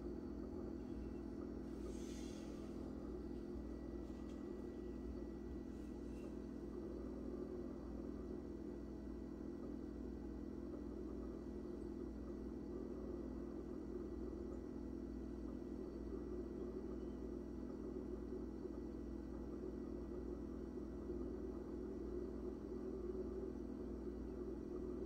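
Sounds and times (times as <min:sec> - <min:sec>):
faint constant tones: 0:00.0 - 0:25.0
steady low hum: 0:00.0 - 0:25.0.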